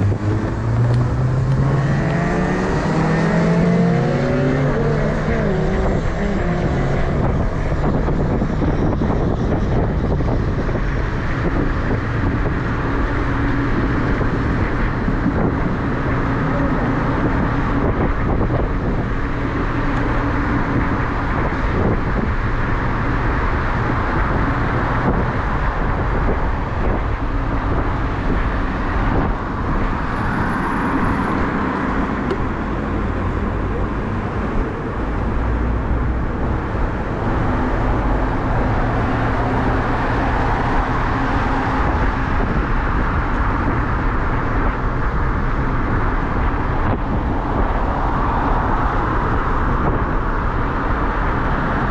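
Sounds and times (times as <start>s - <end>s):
road noise: 0.0s - 51.9s
wind rushing: 0.0s - 51.9s.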